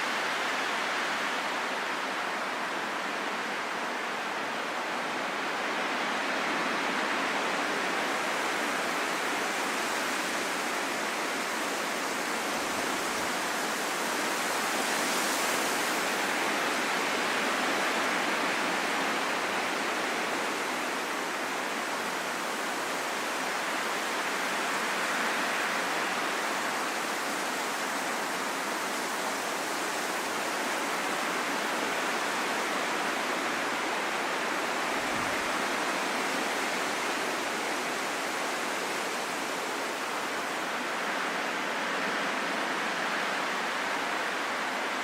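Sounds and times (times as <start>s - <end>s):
rain falling in a forest: 0.0s - 45.0s.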